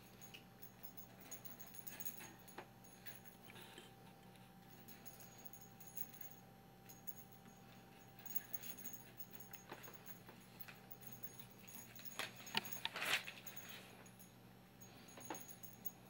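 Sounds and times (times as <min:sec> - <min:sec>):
toy bell jingling: 0:00.0 - 0:03.6, 0:04.7 - 0:16.0.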